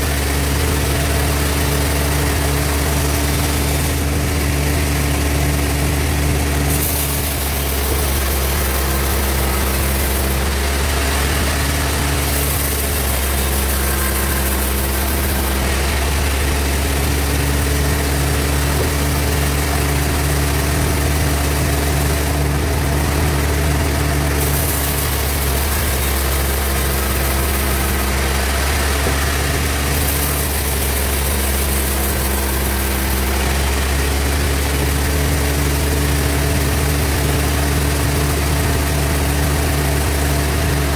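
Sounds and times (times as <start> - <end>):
band saw humming: 0.0 - 40.9
saw hissing through log: 0.0 - 40.9.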